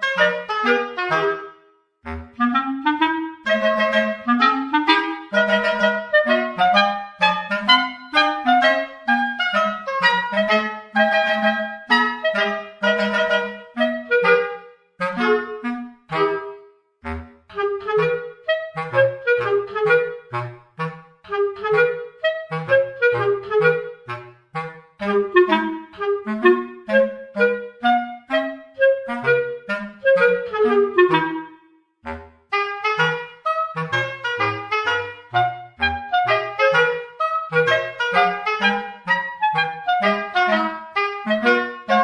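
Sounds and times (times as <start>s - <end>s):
bouncy tune over bass line: 0.0s - 42.0s.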